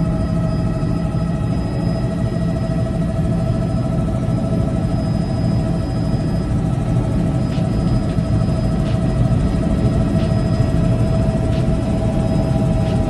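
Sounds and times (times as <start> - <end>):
helicopter engine and rotor rumble: 0.0 - 13.0
high whine: 0.0 - 13.0.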